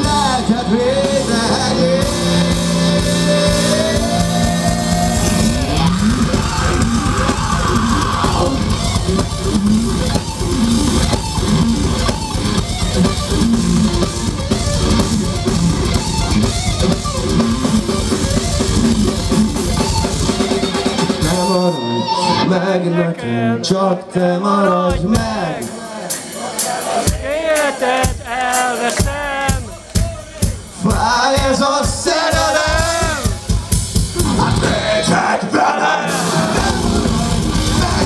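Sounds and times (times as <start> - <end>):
dense drumming: 0.0 - 21.4, 27.1 - 35.3, 36.1 - 38.0
electric guitars: 0.0 - 23.7, 27.0 - 38.0.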